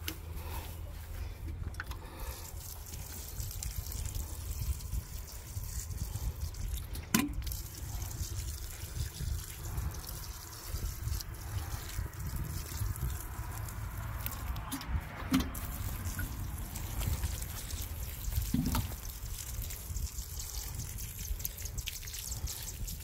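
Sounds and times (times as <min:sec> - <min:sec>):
water trickling onto soil: 0:00.0 - 0:23.0.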